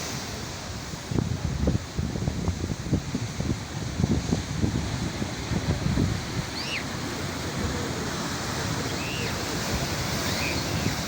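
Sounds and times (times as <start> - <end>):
sea waves washing on shore: 0.0 - 11.0
wind buffeting microphone: 0.3 - 11.0.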